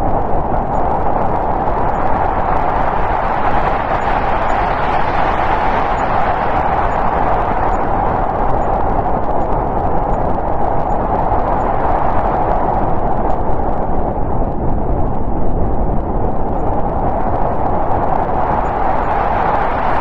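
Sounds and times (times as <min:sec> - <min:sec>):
snowstorm wind blowing: 0:00.0 - 0:20.0.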